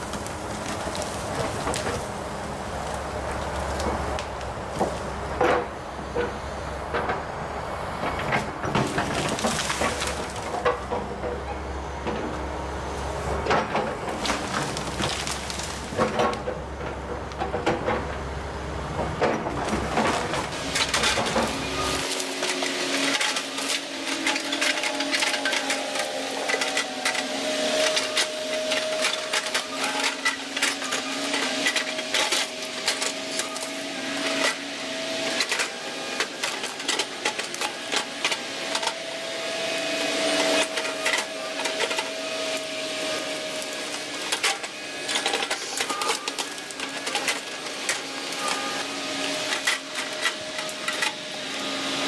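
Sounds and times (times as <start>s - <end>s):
excavator engine and hydraulics whining: 0.0s - 52.0s.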